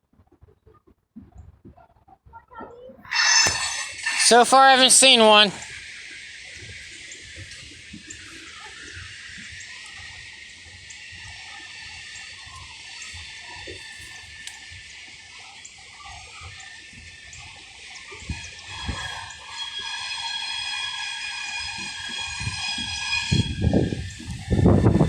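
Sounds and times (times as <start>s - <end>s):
approaching train: 3.0s - 25.0s.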